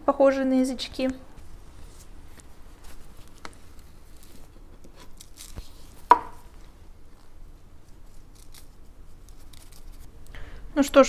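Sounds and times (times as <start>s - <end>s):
soft rustles of soil: 1.3s - 10.3s.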